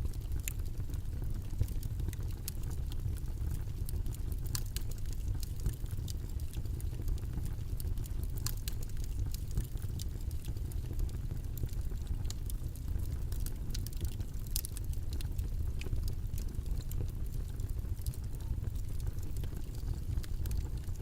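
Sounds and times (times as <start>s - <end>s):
faint clicks and ticks: 0.0s - 21.0s
low-pitched white noise: 0.0s - 21.0s.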